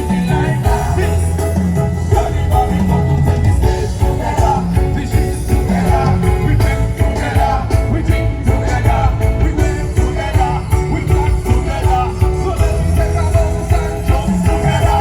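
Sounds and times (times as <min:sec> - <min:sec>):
drum beat: 0:00.0 - 0:15.0
heavy bass line: 0:00.0 - 0:15.0
person singing: 0:00.0 - 0:15.0.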